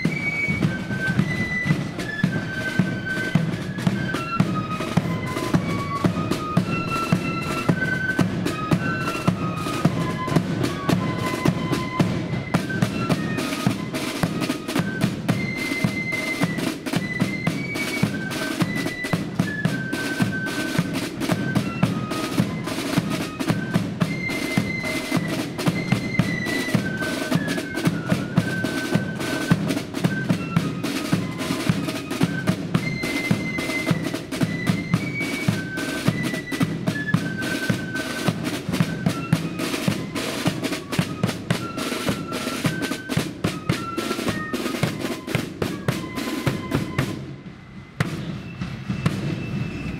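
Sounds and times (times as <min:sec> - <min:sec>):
flutes playing melody: 0:00.0 - 0:49.9
snare drums: 0:00.0 - 0:49.9.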